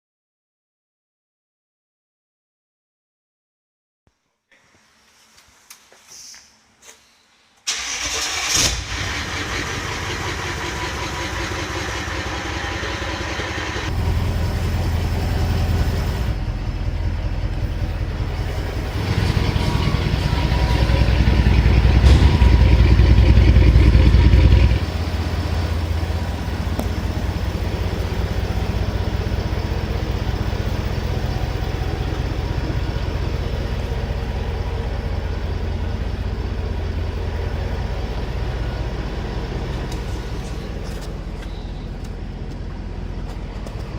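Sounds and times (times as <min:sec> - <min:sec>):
diesel engine starting and running: 0:07.6 - 0:43.9.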